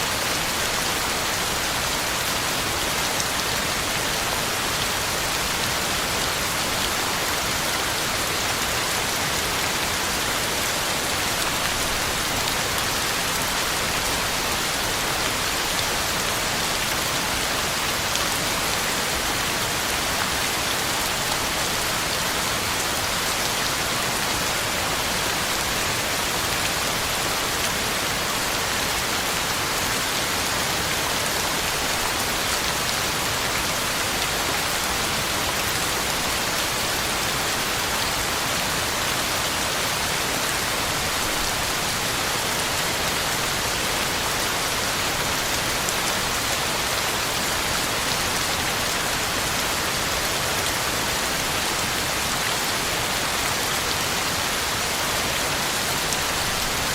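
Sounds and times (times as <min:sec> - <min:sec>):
heavy rain pattering on leaves: 0:00.0 - 0:56.9.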